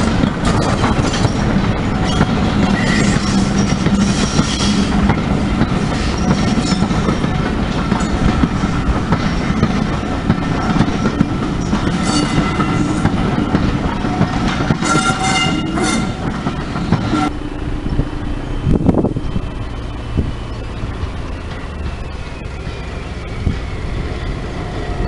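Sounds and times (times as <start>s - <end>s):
train wheels clattering over rail joints: 0.0s - 25.0s.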